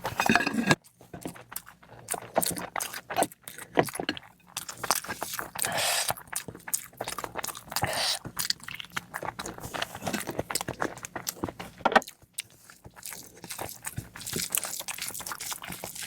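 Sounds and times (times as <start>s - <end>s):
person chewing and smacking lips: 0.0s - 16.0s.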